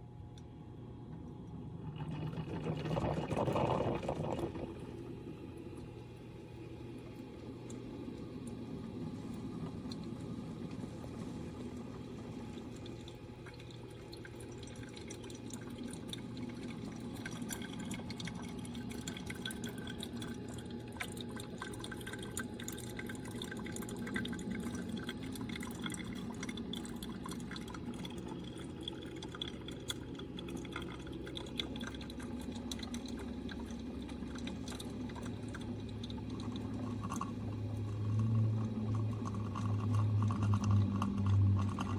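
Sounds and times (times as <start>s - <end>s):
small drips and crackles: 0.0s - 41.9s
steady low hum: 0.0s - 41.9s
water trickling and dripping: 5.6s - 41.9s.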